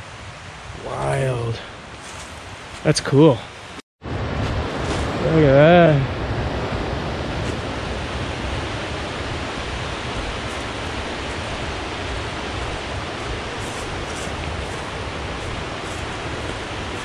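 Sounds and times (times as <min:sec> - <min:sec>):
creek rushing over rapids: 0:00.1 - 0:17.0.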